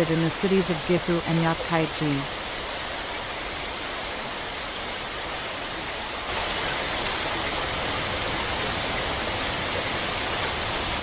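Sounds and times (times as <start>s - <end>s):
heavy rain: 0.0s - 11.0s
running floodwater: 0.0s - 11.0s.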